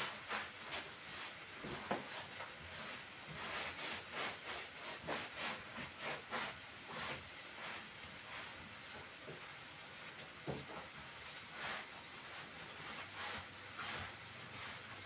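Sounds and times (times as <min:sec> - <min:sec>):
wet cloth scrubbing wood: 0:00.0 - 0:15.0.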